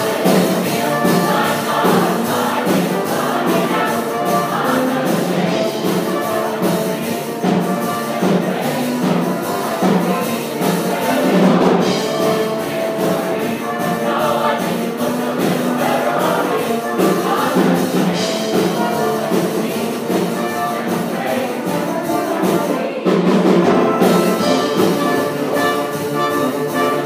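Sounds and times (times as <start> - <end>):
choir singing: 0.0 - 27.0
instrumental accompaniment: 0.0 - 27.0
steady percussive beat: 0.0 - 27.0.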